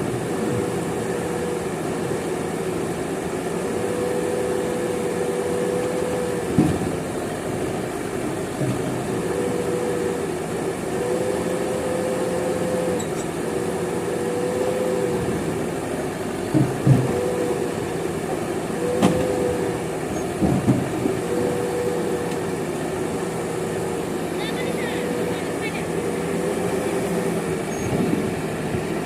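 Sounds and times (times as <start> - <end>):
diesel engine running: 0.0 - 29.0
hydraulic whine: 0.0 - 29.0.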